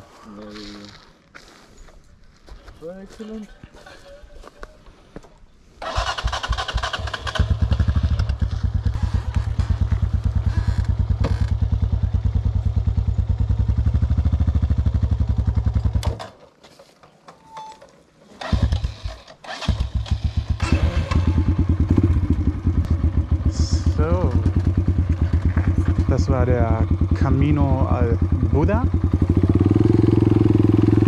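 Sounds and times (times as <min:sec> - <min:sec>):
motorcycle engine puttering: 0:05.8 - 0:31.0.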